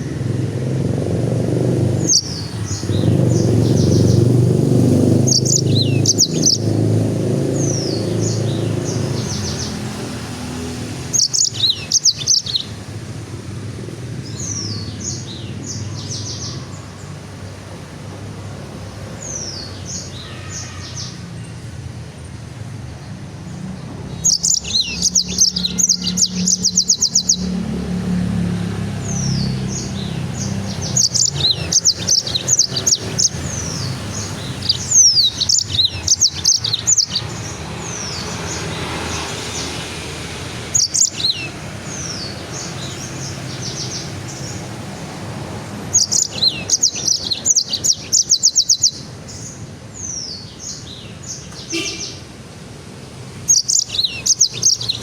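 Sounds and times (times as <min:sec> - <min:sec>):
songbird chirps and trills: 0:00.0 - 0:13.0, 0:22.9 - 0:52.3, 0:53.0 - 0:55.0.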